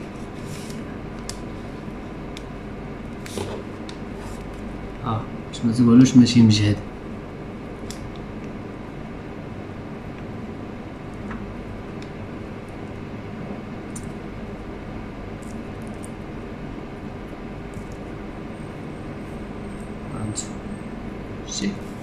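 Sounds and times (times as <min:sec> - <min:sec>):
background hiss and hum: 0:00.0 - 0:22.0.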